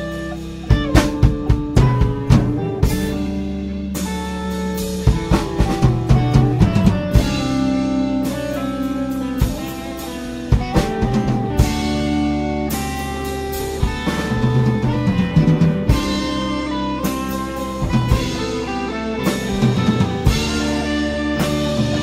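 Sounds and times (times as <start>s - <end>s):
bass guitar notes: 0.0s - 22.0s
drum kit playing: 0.0s - 22.0s
electric guitar notes: 0.0s - 22.0s.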